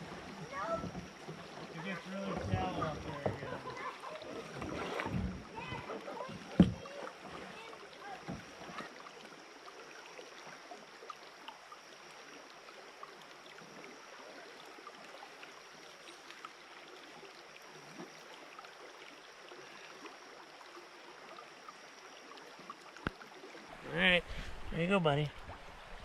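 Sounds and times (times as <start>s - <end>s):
creek water running over rocks: 0.0s - 26.0s.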